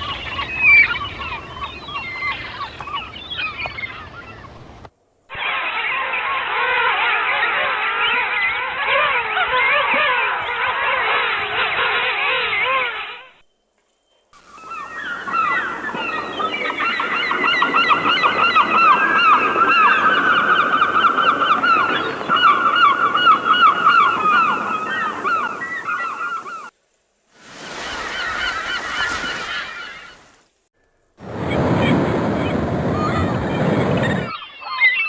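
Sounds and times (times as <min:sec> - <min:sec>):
chorus of bird calls: 0:00.0 - 0:04.7, 0:05.3 - 0:13.4, 0:14.4 - 0:26.7, 0:27.6 - 0:30.4, 0:31.8 - 0:35.0.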